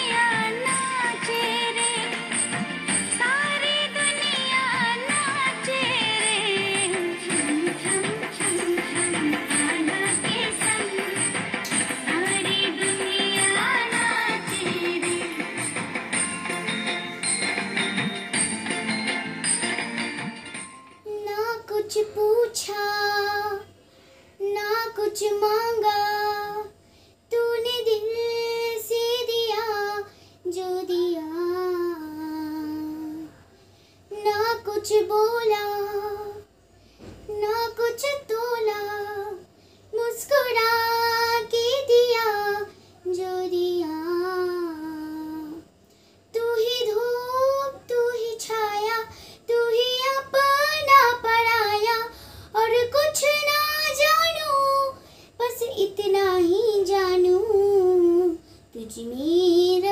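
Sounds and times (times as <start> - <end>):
girl singing unaccompanied: 0.0 - 16.3, 21.0 - 33.5, 34.1 - 36.6, 37.2 - 59.9.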